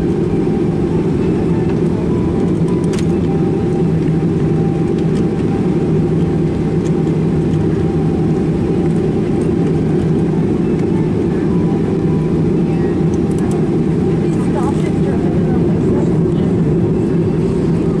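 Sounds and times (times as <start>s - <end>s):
airplane cabin engine rumble: 0.0s - 18.0s
faint thin engine whine: 0.0s - 18.0s.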